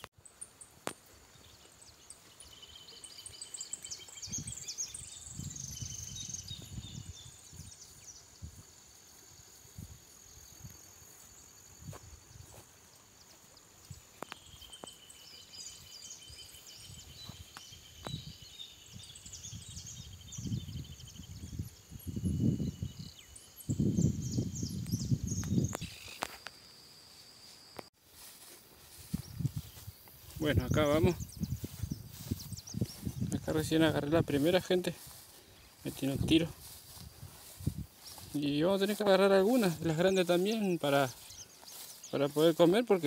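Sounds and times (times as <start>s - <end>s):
wild birds singing: 0.0s - 26.3s, 28.1s - 43.0s
high insect whine: 0.1s - 43.0s.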